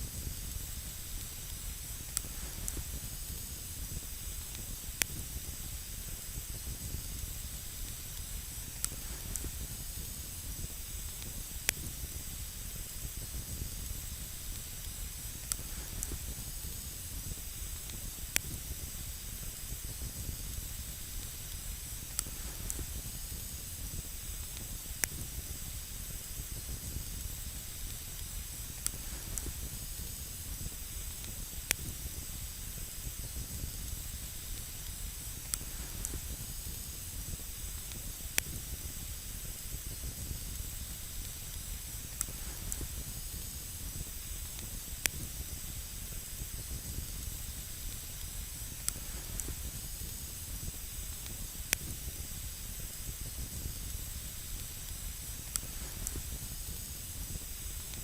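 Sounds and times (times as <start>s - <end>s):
campfire hiss and rumble: 0.0s - 58.0s
sharp fire crackle: 0.0s - 58.0s.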